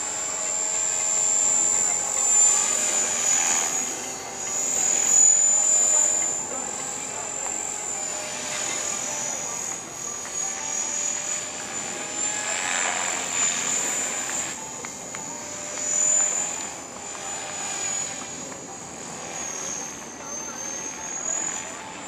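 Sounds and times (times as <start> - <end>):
electric motor high whine: 0.0 - 22.0
helicopter rotor whoosh: 0.0 - 22.0.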